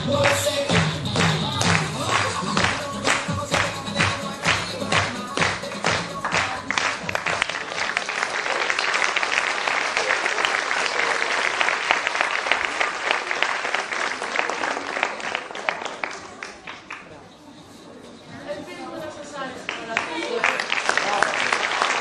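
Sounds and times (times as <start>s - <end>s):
audience applauding: 0.2s - 17.1s, 19.7s - 22.0s.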